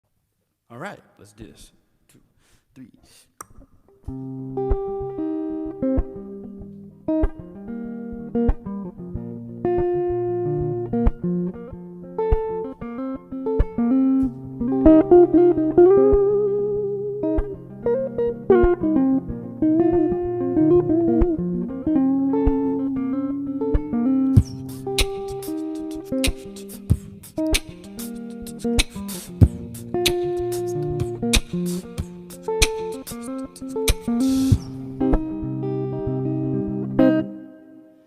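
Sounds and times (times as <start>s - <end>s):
guitar playing: 3.5s - 38.0s.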